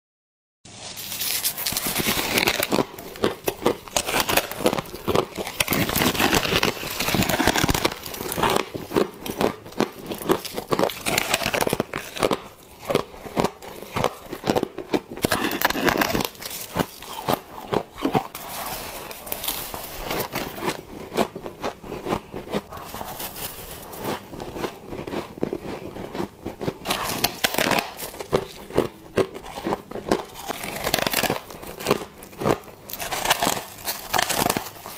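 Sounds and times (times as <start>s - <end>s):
crisp crunching bites: 0.8s - 34.9s.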